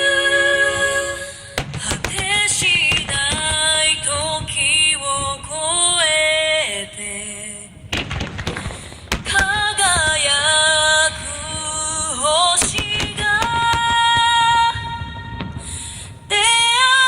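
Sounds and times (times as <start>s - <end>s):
pop song over loudspeakers: 0.0s - 7.8s, 9.3s - 17.0s
firework bangs and crackle: 0.6s - 17.0s.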